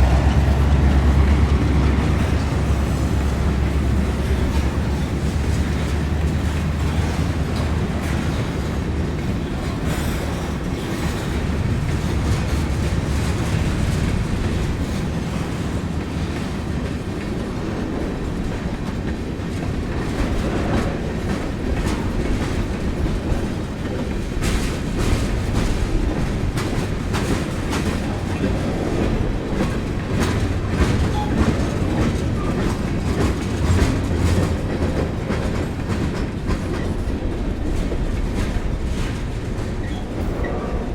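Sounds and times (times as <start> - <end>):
train rumbling: 0.0 - 40.9
wheels clicking over rail joints: 0.0 - 40.9.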